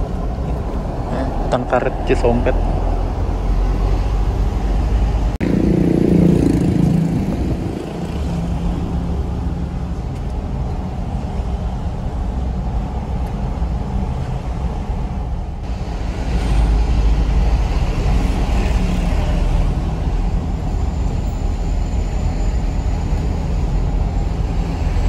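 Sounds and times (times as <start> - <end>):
minibus engine: 0.0 - 25.0
road noise: 0.0 - 25.0.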